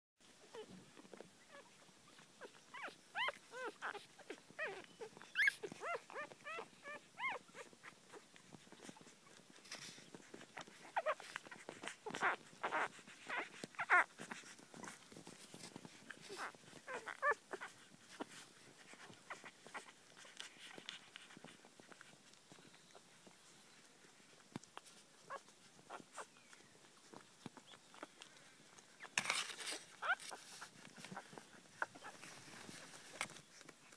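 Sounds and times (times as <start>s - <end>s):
puppies squeaking and whimpering: 1.4s - 15.2s, 15.9s - 23.1s, 24.8s - 33.9s.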